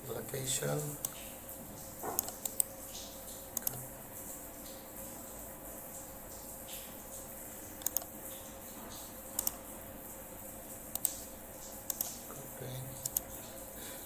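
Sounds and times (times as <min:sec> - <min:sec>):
faint hiss with low hum: 0:00.0 - 0:14.0.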